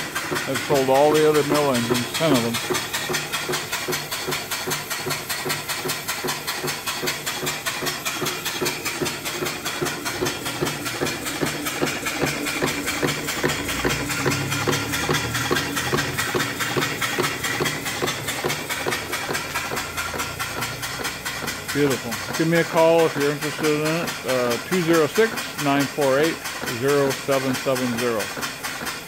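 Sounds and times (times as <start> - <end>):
steam engine exhaust puffs: 0.0 - 29.0.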